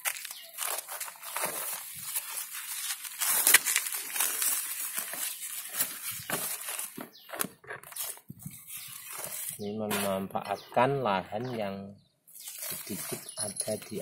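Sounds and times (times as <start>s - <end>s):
plastic bag and leaves rustling: 0.0s - 10.0s, 12.3s - 14.0s.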